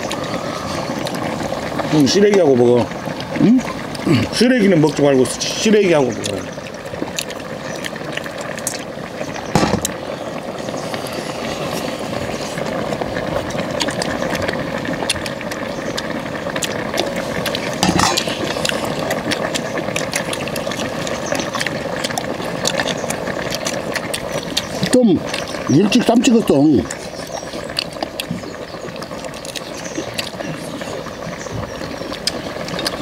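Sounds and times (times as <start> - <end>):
stew bubbling in a pan: 0.0 - 33.0.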